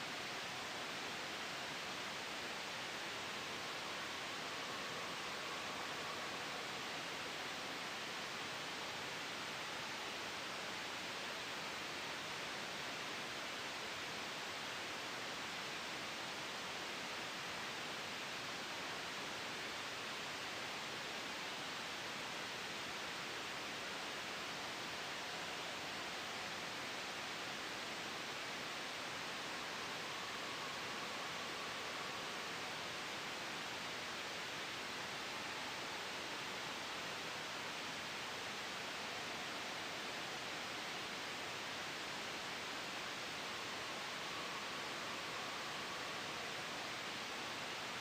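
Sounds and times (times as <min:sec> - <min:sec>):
white noise: 0:00.0 - 0:48.0.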